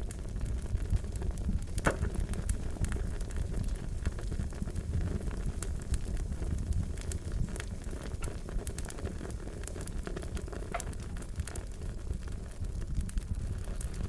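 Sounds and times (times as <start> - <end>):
low rumble of flame: 0.0 - 14.0
wood fire crackling and popping: 0.0 - 14.0.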